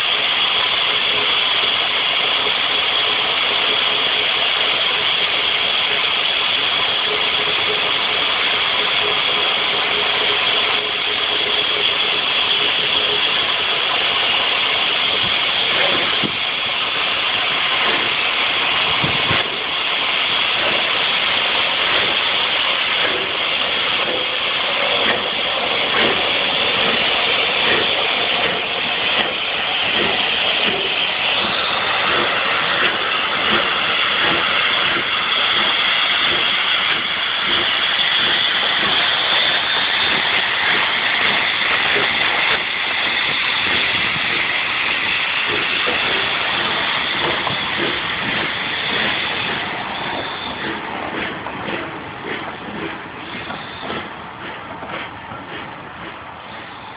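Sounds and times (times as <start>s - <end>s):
steam hissing: 0.0s - 56.9s
steam locomotive exhaust beats: 0.0s - 56.9s.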